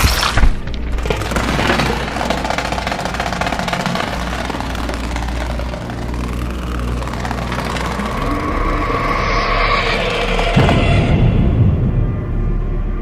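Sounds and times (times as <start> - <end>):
low rumbling drone with fast flutter: 0.4 - 13.0.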